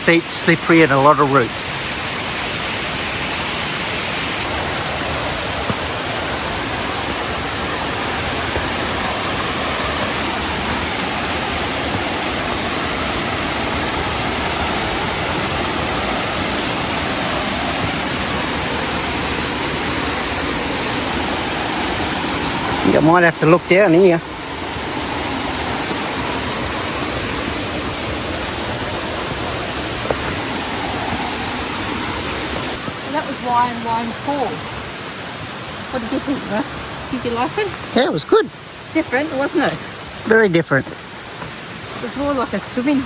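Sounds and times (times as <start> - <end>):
waterfall rushing water: 0.0 - 43.0.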